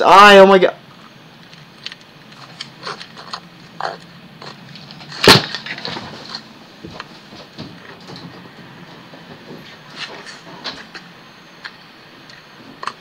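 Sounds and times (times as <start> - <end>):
faint clicks and rustles: 0.9 - 13.0.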